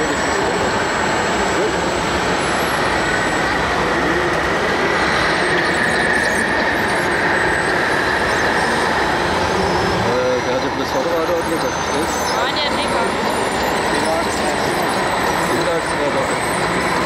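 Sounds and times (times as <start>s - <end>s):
faint voices: 0.0s - 17.0s
model machines running with whine: 0.0s - 17.0s.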